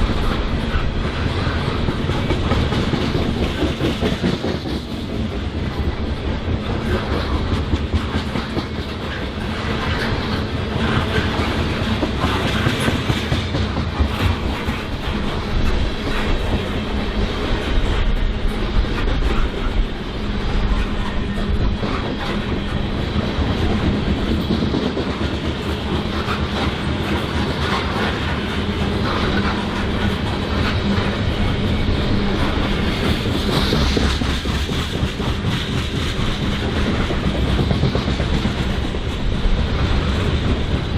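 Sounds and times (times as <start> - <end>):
freight train wheels clacking: 0.0 - 40.9
train rumble: 0.0 - 40.9.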